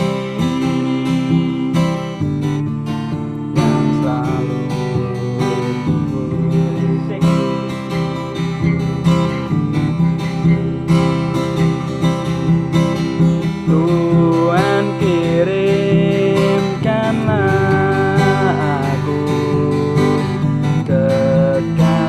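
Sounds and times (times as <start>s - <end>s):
person singing: 0.0s - 9.5s, 13.2s - 22.0s
acoustic guitar strumming: 0.0s - 22.0s.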